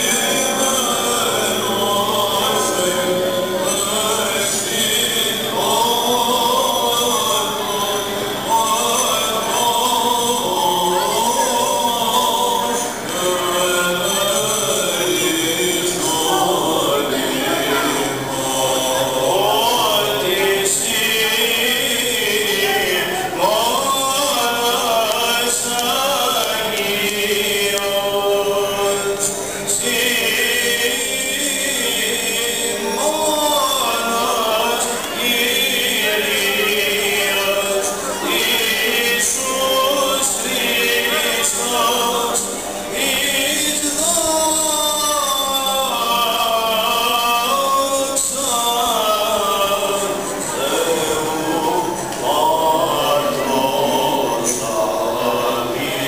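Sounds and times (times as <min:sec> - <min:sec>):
voices chanting long notes: 0:00.0 - 0:56.0.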